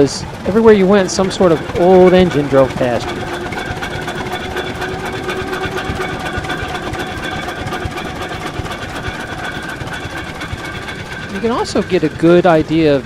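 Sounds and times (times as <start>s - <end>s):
gas engine running with rapid clatter: 0.0s - 13.0s.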